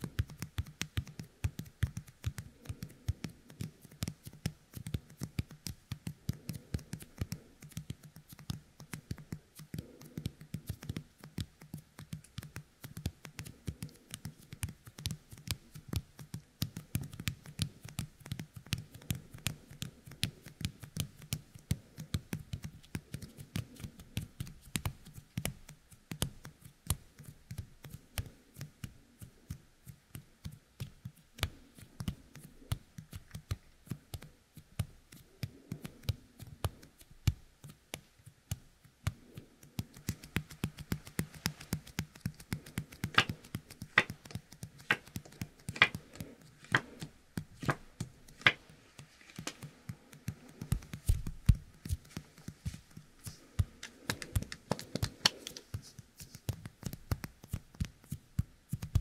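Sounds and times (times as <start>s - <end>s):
sticky fingertips clicking and crackling: 0.0s - 59.0s.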